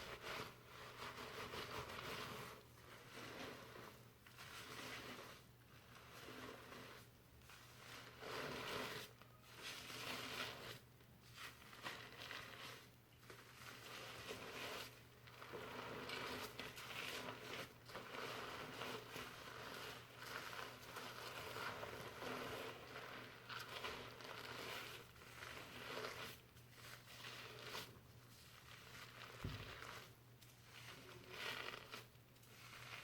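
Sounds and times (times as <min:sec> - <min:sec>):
fingers scrubbing lathered hair: 0:00.0 - 0:33.0.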